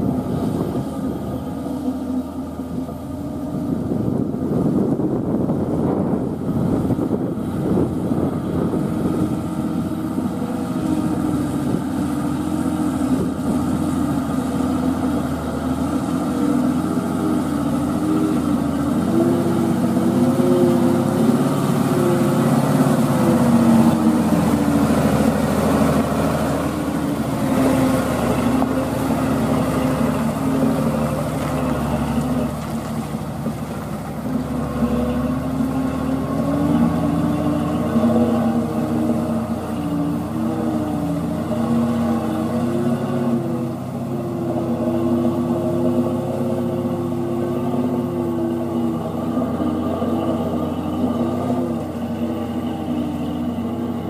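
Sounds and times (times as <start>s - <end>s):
truck diesel engine under load: 0.0s - 54.0s
truck driving on gravel: 0.0s - 54.0s.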